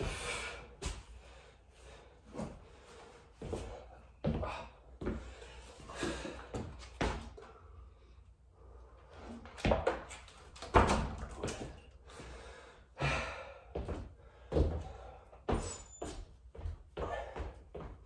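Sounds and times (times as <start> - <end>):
hard breathing: 0.0 - 9.5, 11.7 - 15.9, 16.8 - 17.8.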